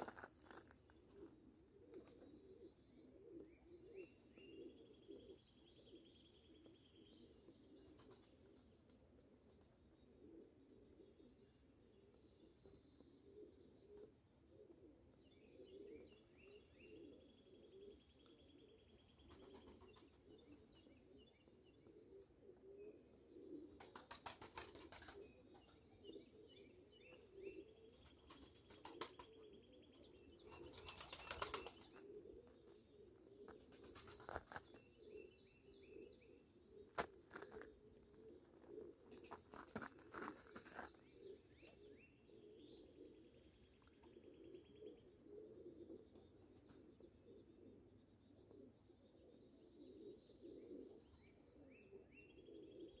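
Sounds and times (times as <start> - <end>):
small birds chirping faintly: 0.0 - 53.0.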